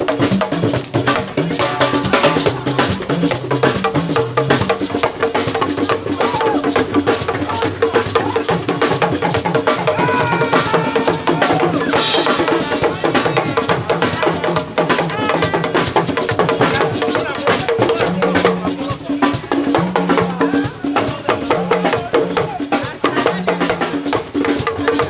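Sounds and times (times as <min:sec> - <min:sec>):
conga drumming: 0:00.0 - 0:25.0
live band music: 0:00.0 - 0:25.0.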